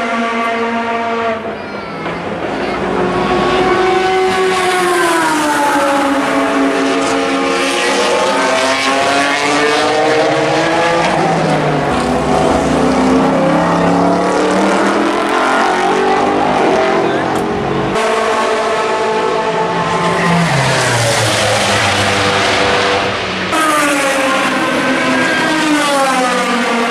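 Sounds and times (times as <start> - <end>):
race car engines: 0.0 - 26.9.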